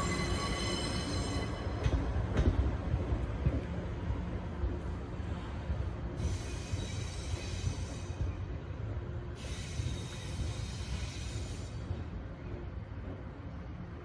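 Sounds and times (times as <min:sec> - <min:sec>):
electric train rumble: 0:00.0 - 0:14.0.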